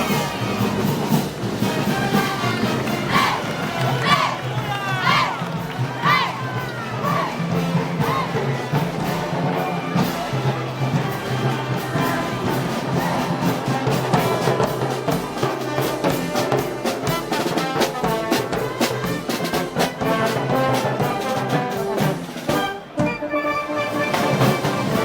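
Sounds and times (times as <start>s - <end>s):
steady drumbeat: 0.0s - 23.3s
trumpets and trombones: 0.0s - 25.0s.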